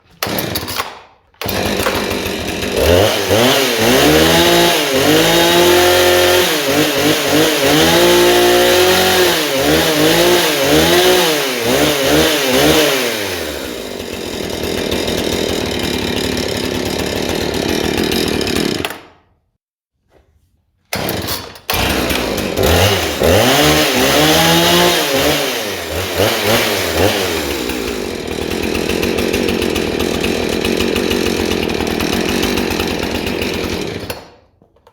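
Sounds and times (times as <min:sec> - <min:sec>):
chainsaw engine revving: 0:00.2 - 0:19.0, 0:21.0 - 0:34.3.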